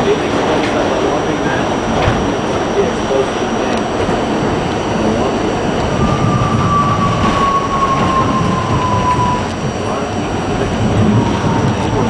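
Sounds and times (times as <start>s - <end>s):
train rumbling on elevated track: 0.0s - 12.0s.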